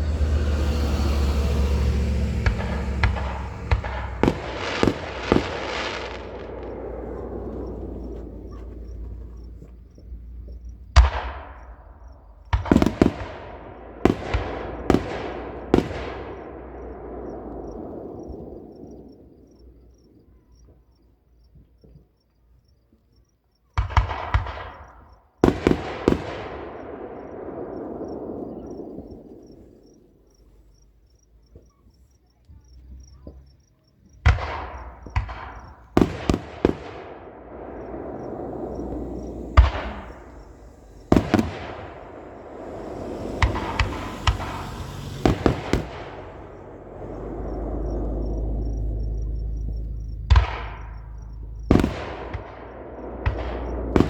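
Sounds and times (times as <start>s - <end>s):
fireworks bangs with rolling echo: 0.0s - 20.8s, 23.8s - 30.8s, 33.2s - 54.0s.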